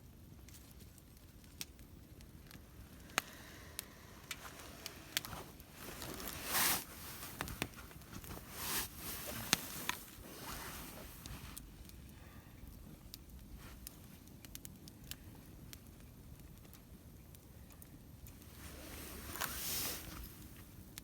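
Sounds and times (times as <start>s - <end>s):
campfire crackling: 0.0s - 21.0s
fire popping: 0.1s - 21.0s.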